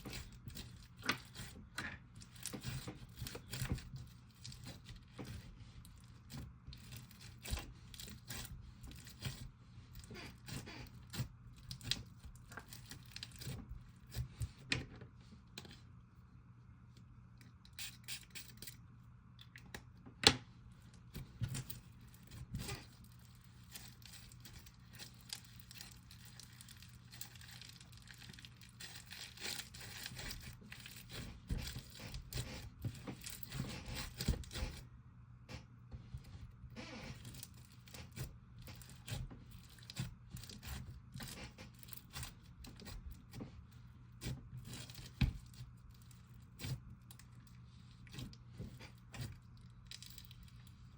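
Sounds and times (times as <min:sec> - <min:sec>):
slime squishing and crackling: 0:00.0 - 0:14.7, 0:20.9 - 0:34.8, 0:36.9 - 0:50.9.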